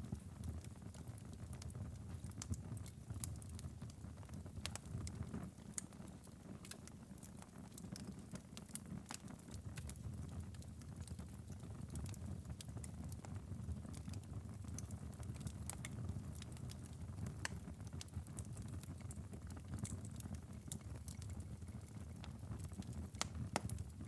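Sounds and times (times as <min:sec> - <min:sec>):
low rumble of burning logs: 0:00.0 - 0:24.0
wood fire crackling: 0:00.0 - 0:24.0.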